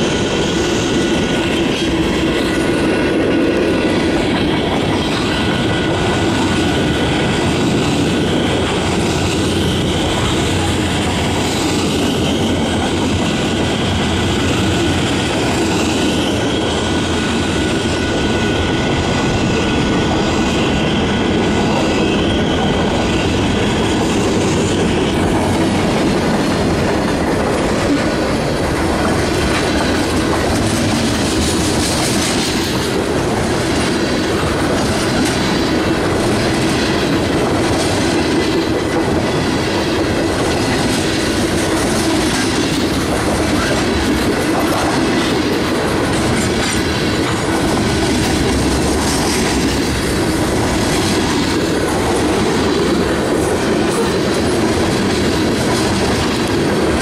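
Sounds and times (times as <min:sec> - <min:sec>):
freight train rumble and rattle: 0:00.0 - 0:57.0
train wheels clacking over rail joints: 0:00.0 - 0:57.0.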